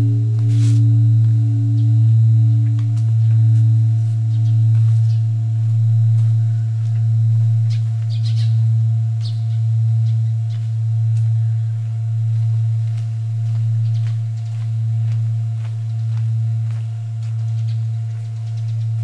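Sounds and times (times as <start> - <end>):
bronze temple bell humming: 0.0 - 19.0
birds chirping faintly: 1.4 - 15.1, 16.8 - 19.0.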